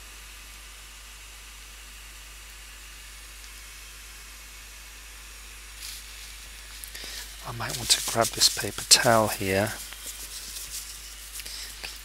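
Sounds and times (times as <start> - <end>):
room tone hiss: 0.0 - 12.0.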